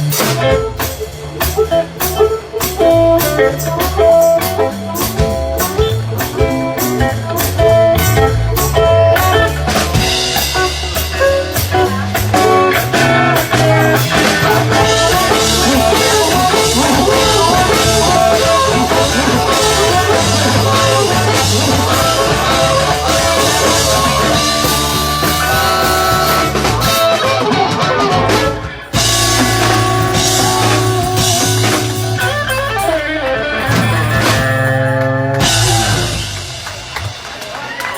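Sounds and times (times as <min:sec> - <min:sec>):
bass guitar: 0:00.0 - 0:37.9
drum kit: 0:00.0 - 0:37.9
electric guitar: 0:00.0 - 0:37.9.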